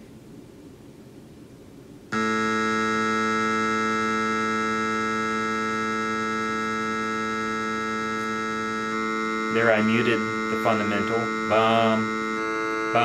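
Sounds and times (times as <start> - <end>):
low buzz tone: 2.1 - 13.0.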